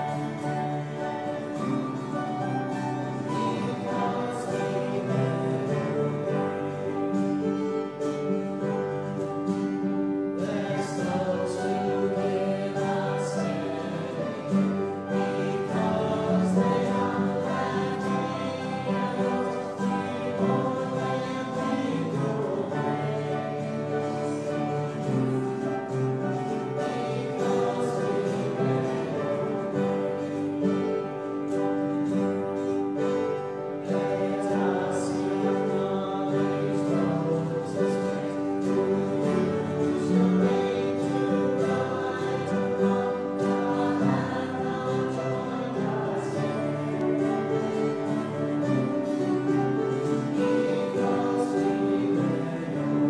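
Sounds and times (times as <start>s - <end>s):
congregation singing a hymn: 0.0s - 53.0s
instruments accompanying: 0.0s - 53.0s.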